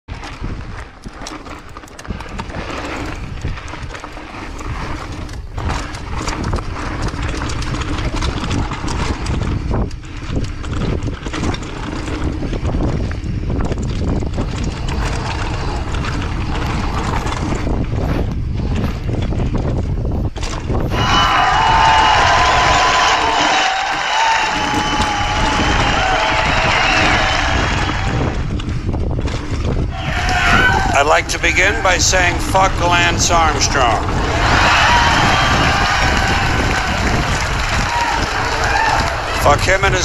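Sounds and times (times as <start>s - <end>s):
bike rattling and clicking: 0.0s - 40.0s
wind rumbling on microphone: 0.0s - 40.0s
tyres rolling over dirt and rocks: 0.1s - 40.0s.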